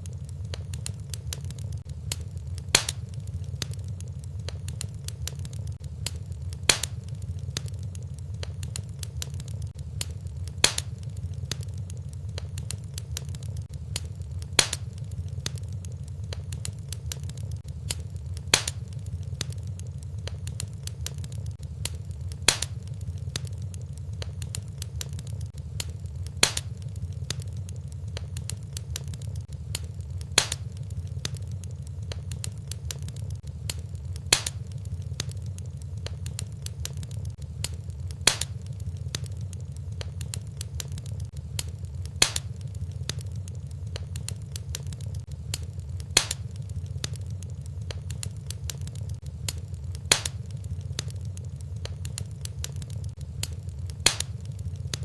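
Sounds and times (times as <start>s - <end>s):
fireplace fire crackling: 0.0s - 55.0s
sharp fire pops: 0.0s - 55.0s.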